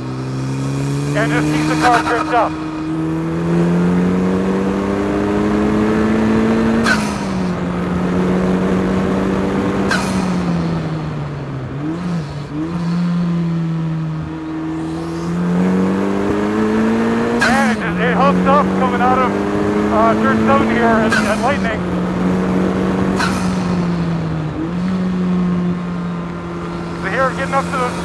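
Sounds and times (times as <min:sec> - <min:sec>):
car engine accelerating hard: 0:00.0 - 0:28.0.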